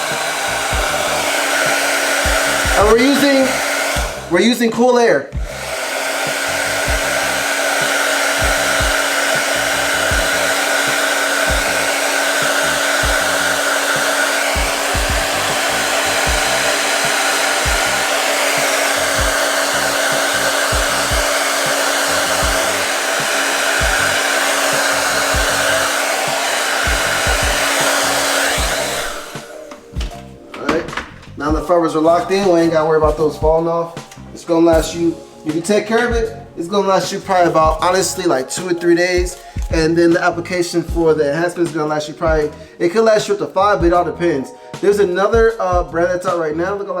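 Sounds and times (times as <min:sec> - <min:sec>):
hair dryer blowing: 0:00.0 - 0:42.6.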